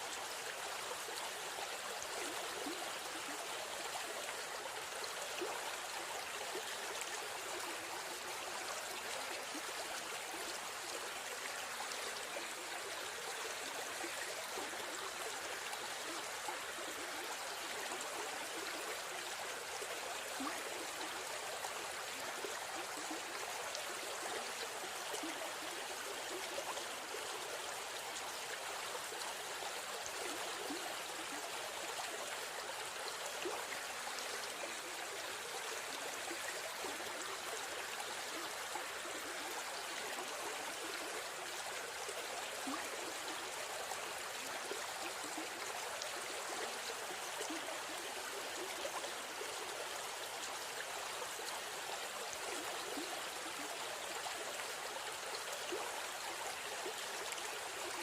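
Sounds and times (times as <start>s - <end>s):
stream flowing and babbling: 0.0s - 58.0s.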